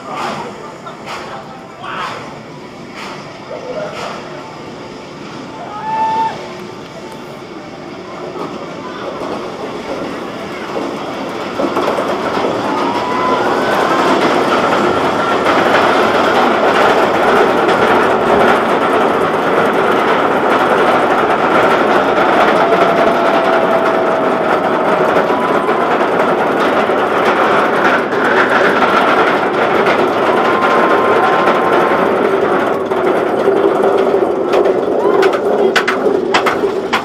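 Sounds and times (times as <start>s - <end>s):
roller coaster wheels rumbling on rail: 0.0s - 37.0s.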